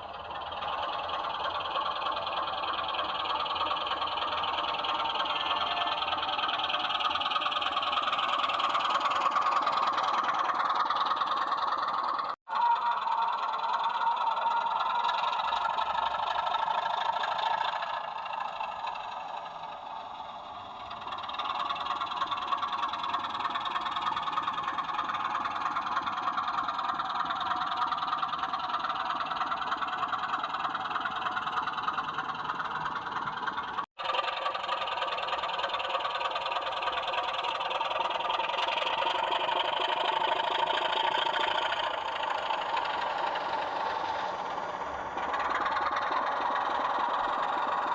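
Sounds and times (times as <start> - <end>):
model locomotive diesel engine drone: 0.0 - 47.9.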